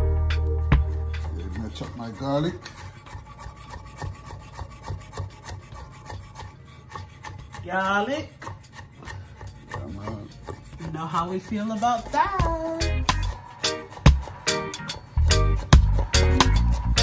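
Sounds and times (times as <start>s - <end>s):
blade scraping board: 0.7s - 17.0s
knife chopping on wooden board: 0.8s - 14.4s.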